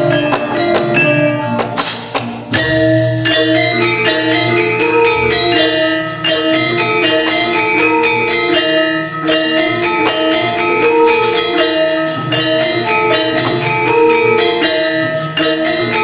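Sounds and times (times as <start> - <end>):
gamelan metal percussion: 0.0 - 16.0.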